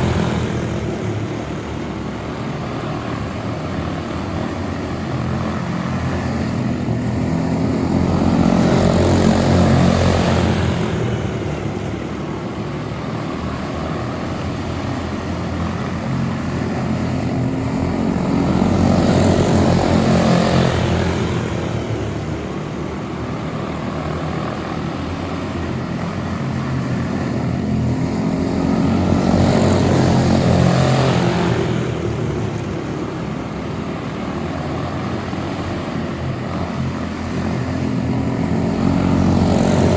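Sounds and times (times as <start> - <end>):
small race car engines droning: 0.0 - 39.9.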